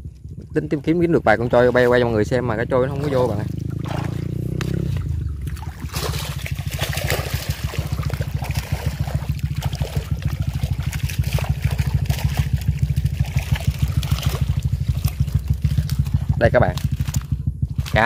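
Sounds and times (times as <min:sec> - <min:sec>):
low fluttering rumble: 0:00.0 - 0:18.0
water trickling and splashing: 0:00.2 - 0:18.0.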